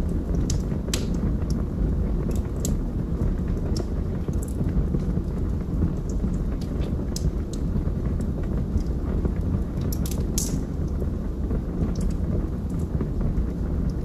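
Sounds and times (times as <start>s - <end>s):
burning logs crackling and popping: 0.0s - 14.0s
low roar of flames: 0.0s - 14.0s.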